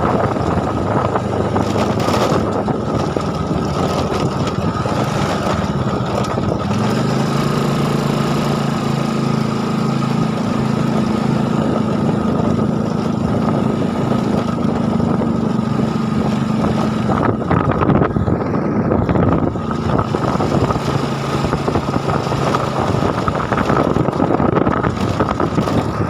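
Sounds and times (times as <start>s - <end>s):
small motorcycle engine running: 0.0s - 26.0s
wind buffeting microphone: 0.0s - 26.0s.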